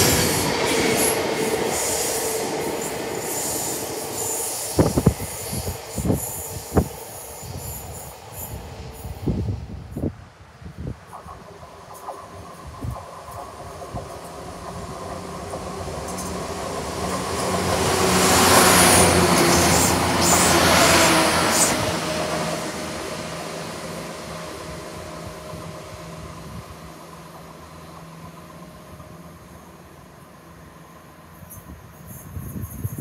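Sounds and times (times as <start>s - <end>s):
diesel train engine drone: 0.0s - 33.0s
train wheel and rail noise: 0.0s - 33.0s.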